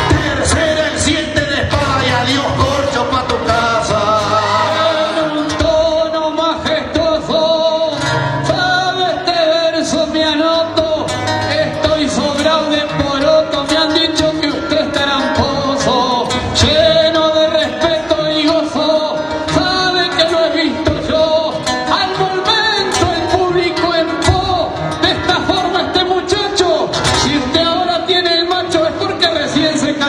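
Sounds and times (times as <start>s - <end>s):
acoustic guitar: 0.0s - 30.0s
man singing: 0.0s - 30.0s.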